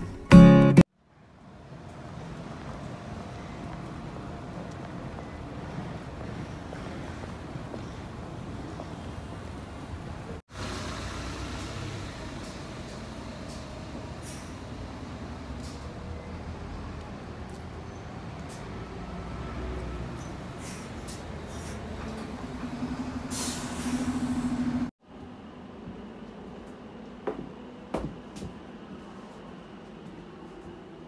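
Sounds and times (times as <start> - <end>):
bus diesel engines idling: 1.5 - 31.0.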